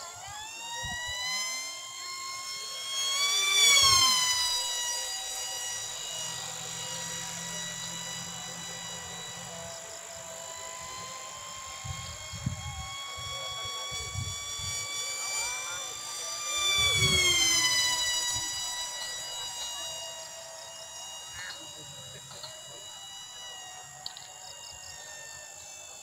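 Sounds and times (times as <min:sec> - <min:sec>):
model plane motor whining: 0:00.0 - 0:26.0.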